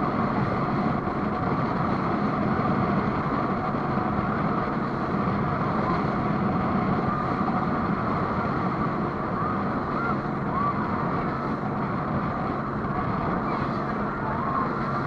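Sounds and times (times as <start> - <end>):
rushing water noise: 0.0 - 15.0
speedboat engine drone: 0.0 - 15.0.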